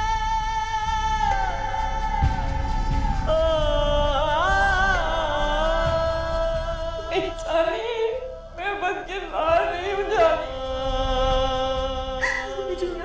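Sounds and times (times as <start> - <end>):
person singing with vibrato: 0.0 - 13.0
steady held drone: 0.0 - 13.0.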